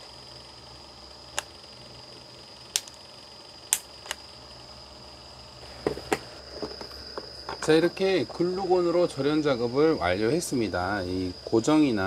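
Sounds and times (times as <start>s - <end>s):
faint steady high whine: 0.0s - 12.0s.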